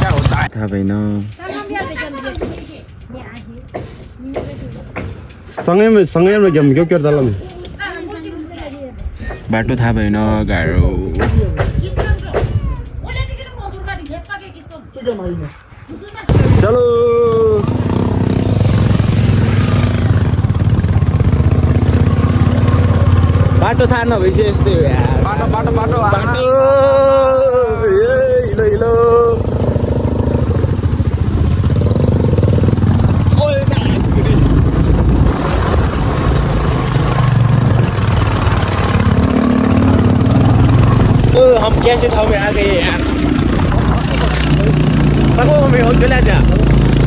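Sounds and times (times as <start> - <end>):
motorcycle engine thumping: 0.0 - 0.6, 1.2 - 6.4, 7.3 - 14.0, 16.3 - 47.0.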